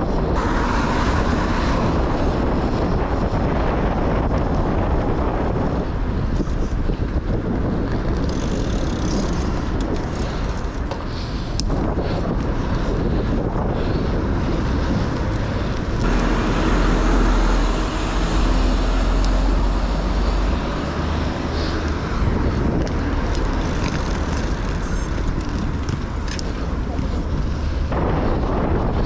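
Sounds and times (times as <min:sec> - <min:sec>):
cars passing: 0:00.0 - 0:29.0
wind noise on microphones: 0:00.0 - 0:29.0.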